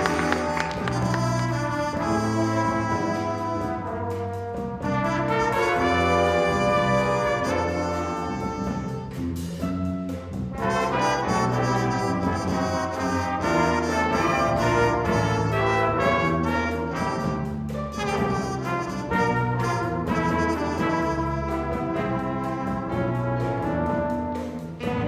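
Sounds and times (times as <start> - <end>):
concert band playing held chords: 0.0 - 25.0.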